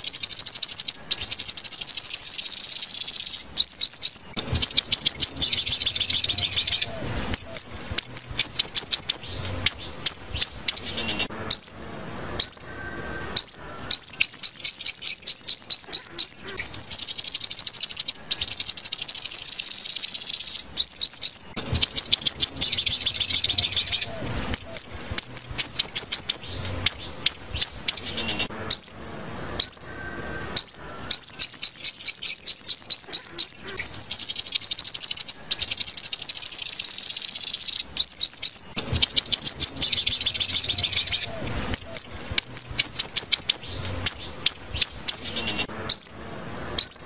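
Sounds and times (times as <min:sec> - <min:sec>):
bird chirping: 0:00.0 - 0:47.0
buzzy high bird trill: 0:00.0 - 0:47.0.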